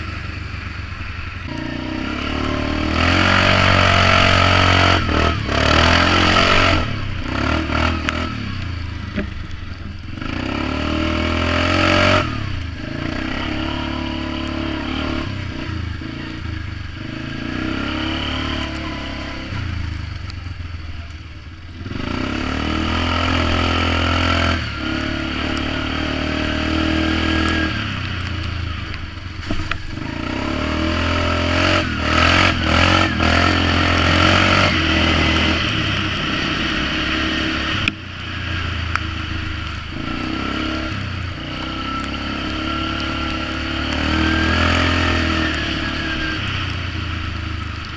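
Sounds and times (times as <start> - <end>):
atv engine revving while riding: 0.0 - 47.9.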